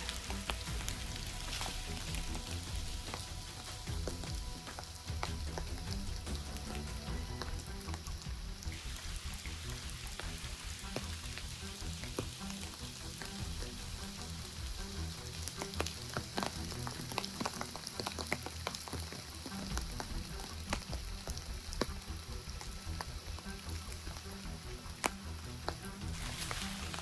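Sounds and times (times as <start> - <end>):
heavy rain falling: 0.0 - 27.0
rain drop impacts and drips: 0.0 - 27.0.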